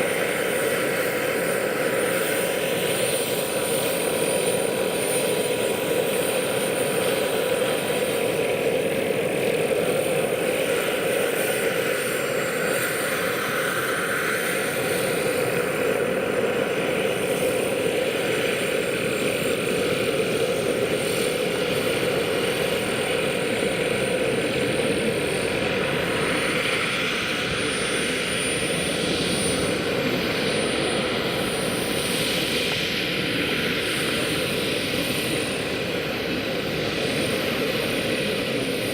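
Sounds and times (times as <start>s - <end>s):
turbine high whine: 0.0s - 38.9s.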